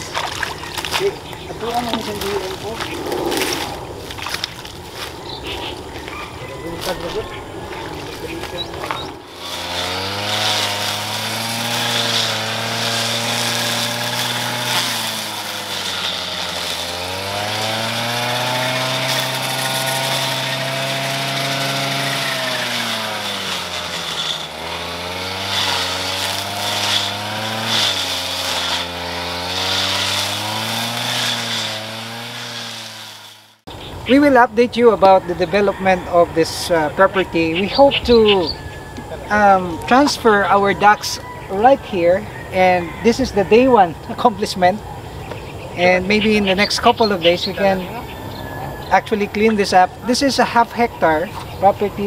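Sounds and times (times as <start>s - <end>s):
brush cutter engine running: 0.0s - 44.8s.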